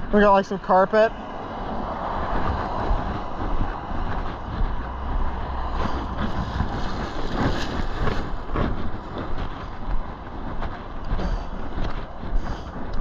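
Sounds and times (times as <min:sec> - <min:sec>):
highway traffic rushing: 0:00.0 - 0:13.0.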